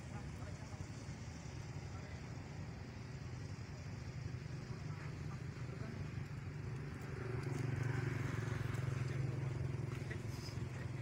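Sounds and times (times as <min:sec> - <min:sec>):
low steady motor hum: 0:00.0 - 0:11.0.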